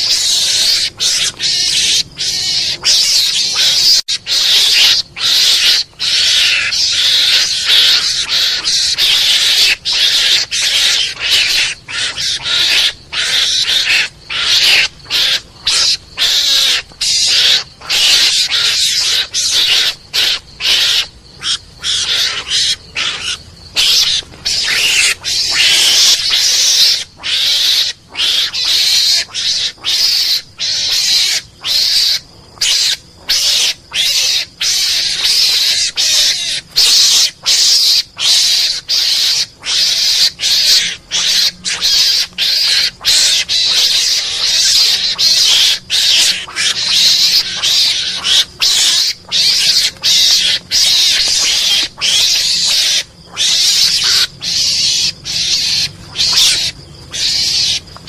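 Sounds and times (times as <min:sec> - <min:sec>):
harsh hissing animal call: 0:00.0 - 0:57.9.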